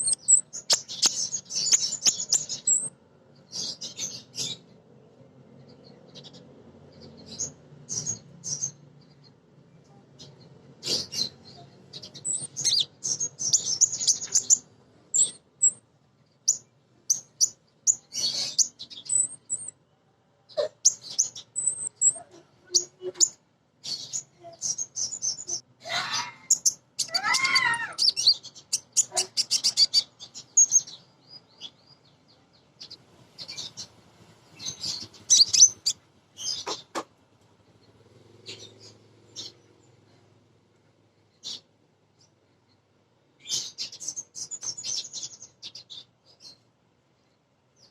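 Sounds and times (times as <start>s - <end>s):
sunbird chirps and trills: 0.0s - 40.4s, 41.0s - 47.9s.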